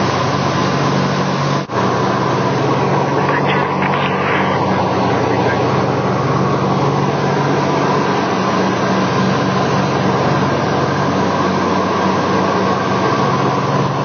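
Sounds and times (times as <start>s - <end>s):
airplane piston engines droning: 0.0s - 14.0s.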